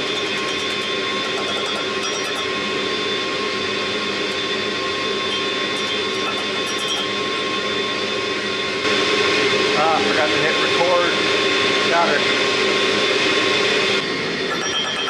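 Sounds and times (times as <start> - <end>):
gas forge burners roaring: 0.0 - 15.0.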